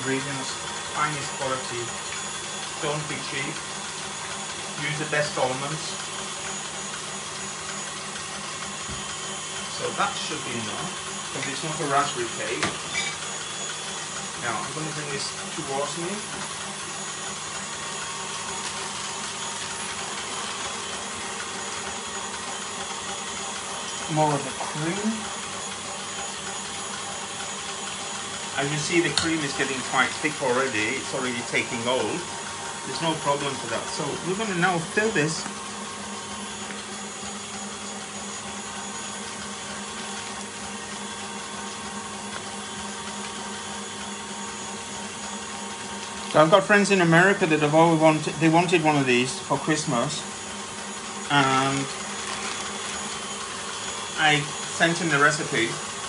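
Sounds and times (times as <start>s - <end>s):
steady whirring hiss: 0.0s - 56.0s.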